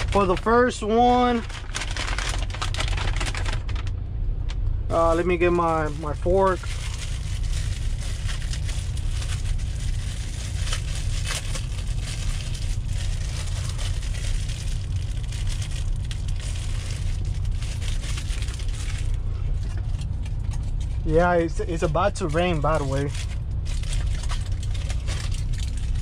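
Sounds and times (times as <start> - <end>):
plastic wrapping crinkling: 0.0 - 3.9, 4.9 - 21.0, 22.3 - 26.0
low rumble: 0.0 - 26.0.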